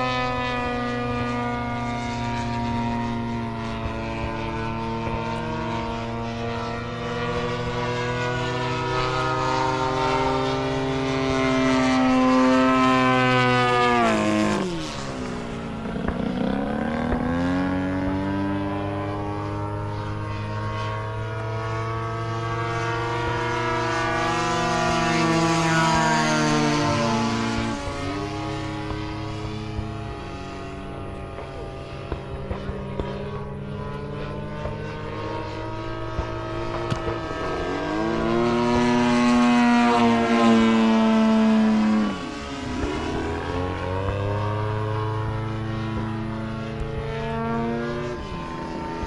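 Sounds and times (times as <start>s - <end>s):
model airplane engine buzzing: 0.0s - 49.0s.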